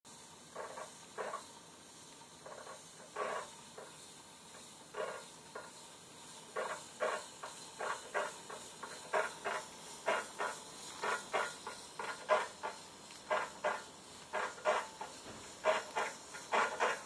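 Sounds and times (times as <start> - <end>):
spin bike scraping: 0.1 - 17.0.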